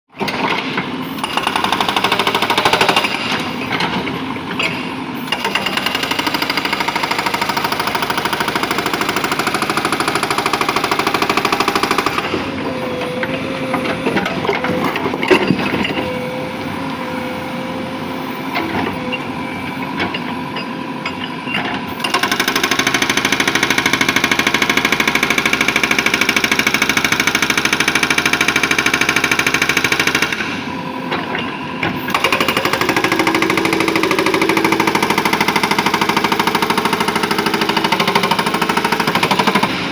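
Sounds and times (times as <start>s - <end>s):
hydraulic rock breaker hammering: 0.2s - 17.3s, 19.9s - 39.9s
diesel engine under load: 0.2s - 39.9s.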